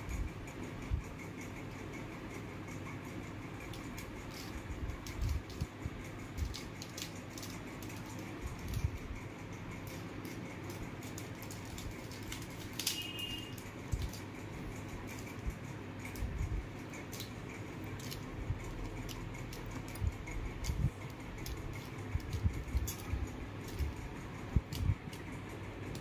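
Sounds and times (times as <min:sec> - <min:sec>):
plastic cube layers clicking: 0:03.2 - 0:26.0.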